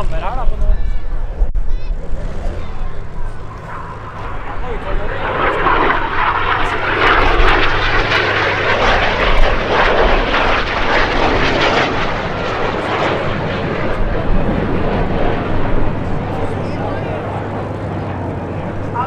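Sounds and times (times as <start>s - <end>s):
aircraft engine roar: 0.0s - 19.0s.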